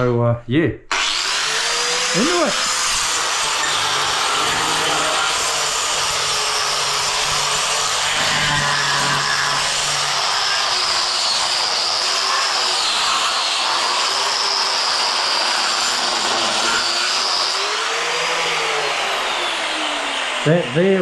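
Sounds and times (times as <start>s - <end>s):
angle grinder grinding floor: 0.9s - 21.0s.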